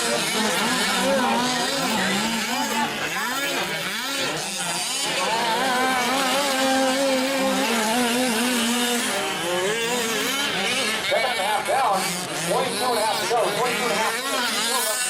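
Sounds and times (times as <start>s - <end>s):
rc truck engines revving: 0.0s - 15.0s.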